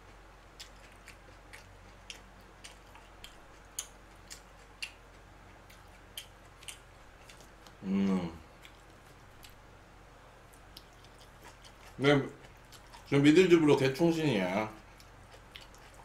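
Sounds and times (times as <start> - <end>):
person chewing food: 0.0 - 9.7, 10.3 - 13.3, 14.7 - 16.0.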